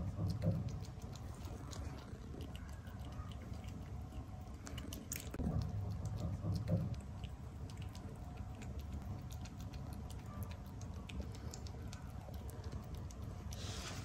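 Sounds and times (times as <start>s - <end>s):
kitten licking wet tongue clicks: 0.0s - 13.6s.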